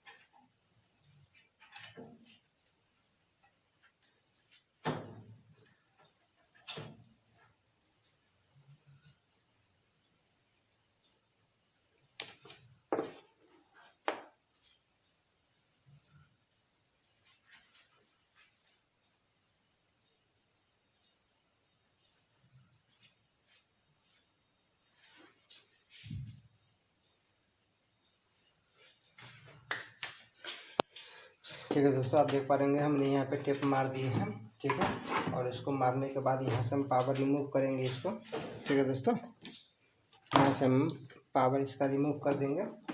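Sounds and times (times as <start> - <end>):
crickets chirping: 0.0 - 42.9
high-pitched insect tone: 0.0 - 42.9.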